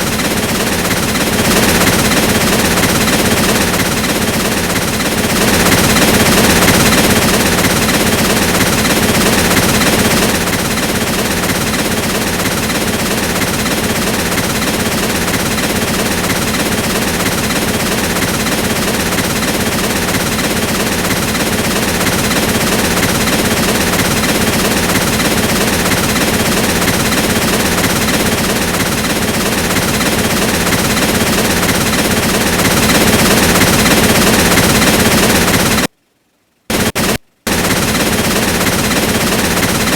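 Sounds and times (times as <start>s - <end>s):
train wheels clattering on track: 0.0s - 35.9s.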